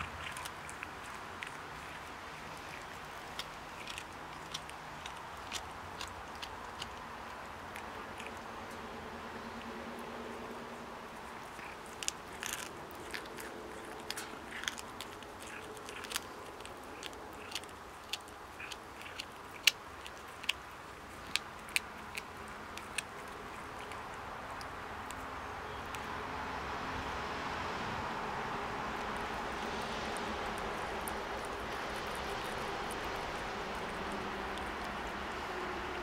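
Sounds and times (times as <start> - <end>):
cat crunching bones: 0.0 - 26.2, 28.5 - 36.0.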